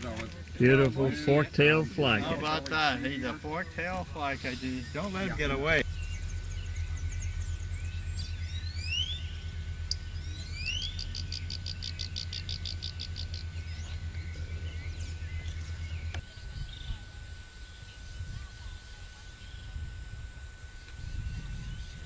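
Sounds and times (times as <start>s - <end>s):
low pulsing hum: 0.0s - 22.0s
tropical birds calling: 1.1s - 22.0s.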